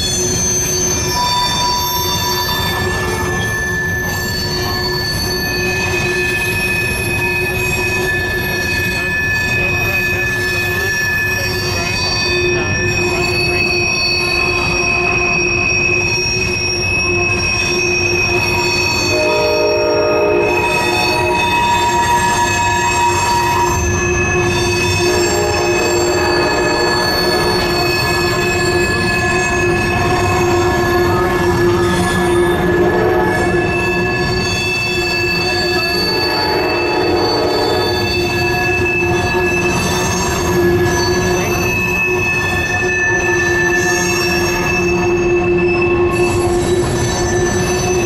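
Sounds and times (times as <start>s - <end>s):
freight train rumble: 0.0s - 48.0s
train wheels squealing: 0.0s - 48.0s.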